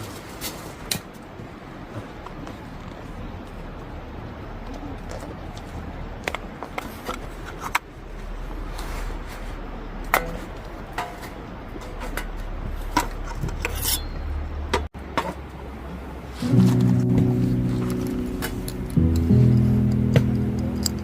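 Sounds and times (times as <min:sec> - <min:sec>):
low steady background: 0:01.2 - 0:21.0.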